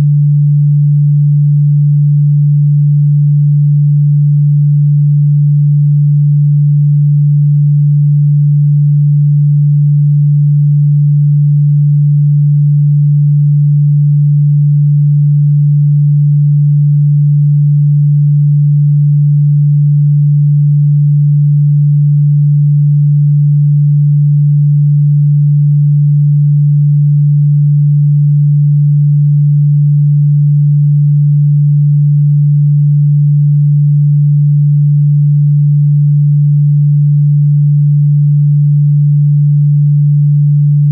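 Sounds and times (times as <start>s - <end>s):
low sine tone: 0.0s - 40.9s.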